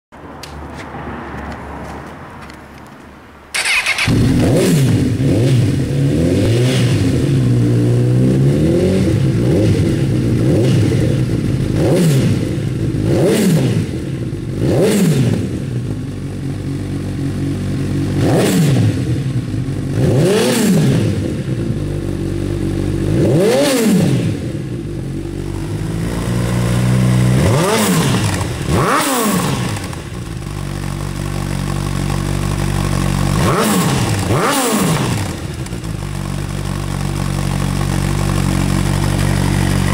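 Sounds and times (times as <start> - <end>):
motorcycle engine revving: 3.5 - 39.9.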